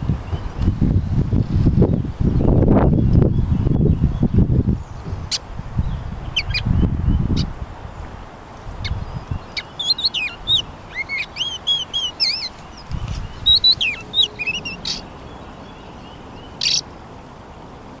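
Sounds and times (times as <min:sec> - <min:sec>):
wind rumbling on microphone: 0:00.0 - 0:18.0
small birds chirping: 0:00.1 - 0:17.0.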